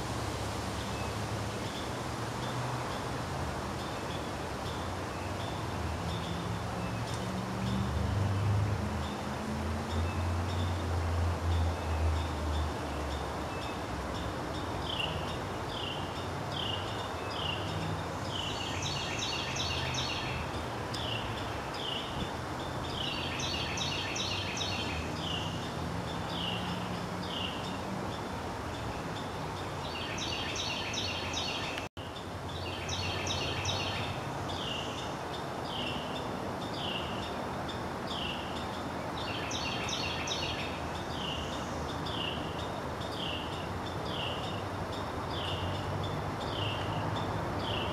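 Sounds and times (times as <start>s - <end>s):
songbird singing: 0.6s - 47.9s.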